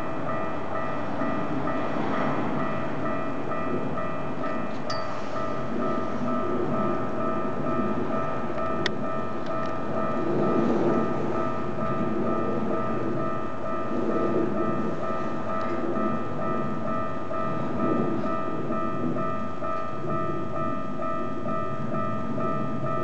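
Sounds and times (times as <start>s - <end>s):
electric train rumbling past: 0.0s - 23.0s
level-crossing warning bell ringing: 0.0s - 23.0s.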